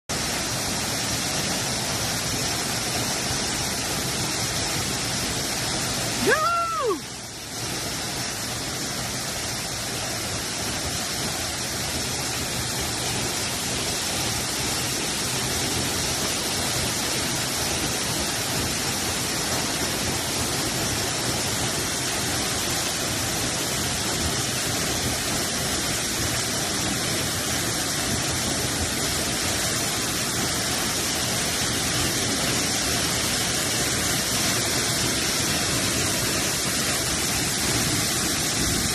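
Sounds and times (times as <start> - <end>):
waterfall roaring: 0.1 - 38.9.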